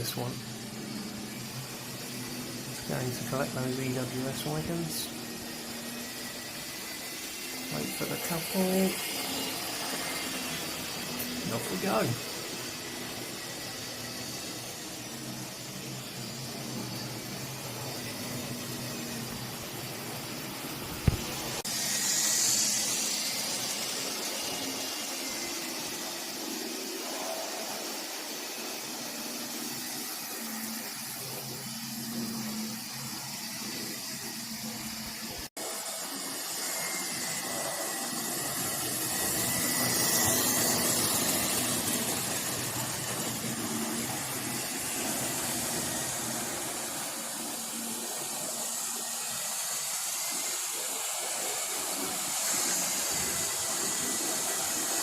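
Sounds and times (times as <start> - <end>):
model locomotive motors humming: 0.0 - 55.0.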